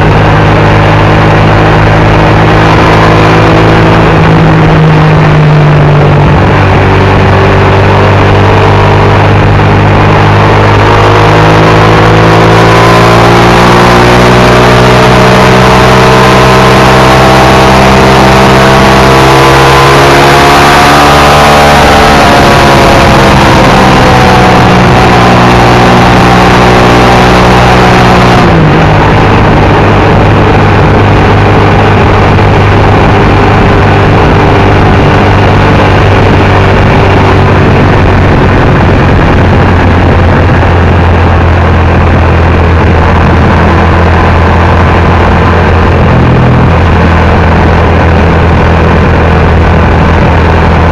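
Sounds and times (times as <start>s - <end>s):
motorcycle engine running: 0.0s - 50.9s
wind noise: 0.0s - 50.9s.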